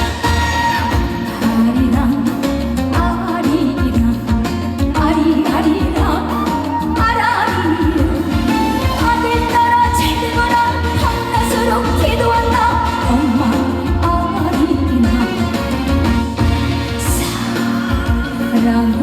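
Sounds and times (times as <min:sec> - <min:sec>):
recorded backing track: 0:00.0 - 0:19.0
woman singing: 0:00.0 - 0:19.0.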